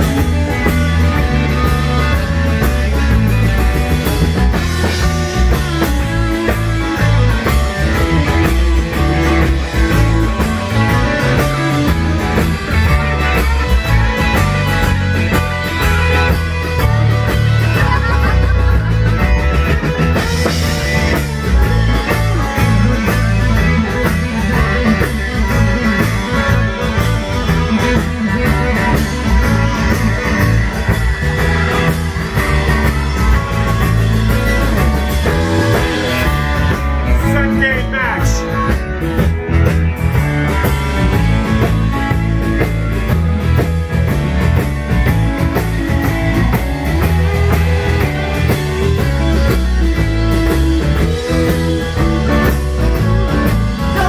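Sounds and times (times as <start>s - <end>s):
electric guitar lead: 0.0s - 54.0s
live rock band: 0.0s - 54.0s.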